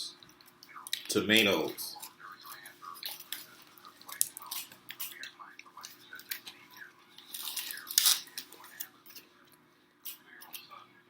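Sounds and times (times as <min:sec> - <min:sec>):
chewing with wet mouth clicks: 0:00.2 - 0:01.1, 0:02.0 - 0:10.7.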